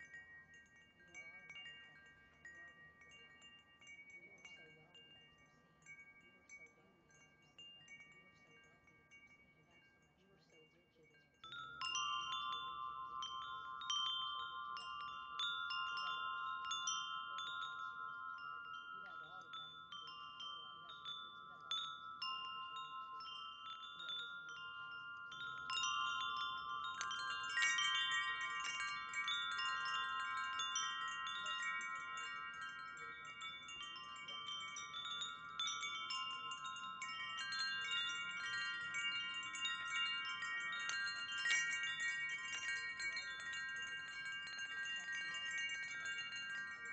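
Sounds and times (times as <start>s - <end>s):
wind chimes ringing: 0.0s - 46.9s.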